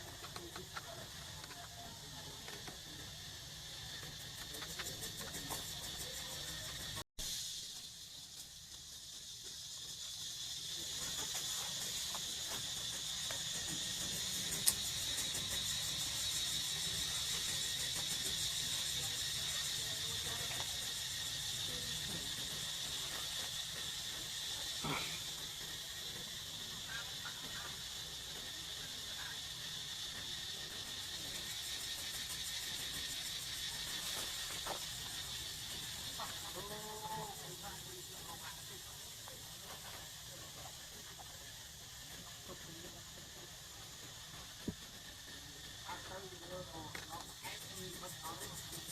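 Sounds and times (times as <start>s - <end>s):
forest insects chorus: 0.0s - 48.9s.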